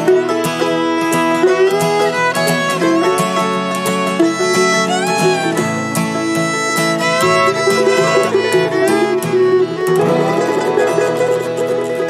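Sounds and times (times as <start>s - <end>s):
acoustic guitar: 0.0s - 12.0s
dobro: 0.0s - 12.0s
fiddle with sliding notes: 0.0s - 12.0s
mandolin: 0.0s - 12.0s.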